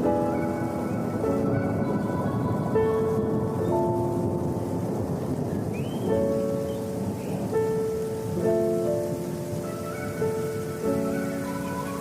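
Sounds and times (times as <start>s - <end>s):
falling rain: 0.0s - 12.0s
soft instrumental music: 0.0s - 12.0s.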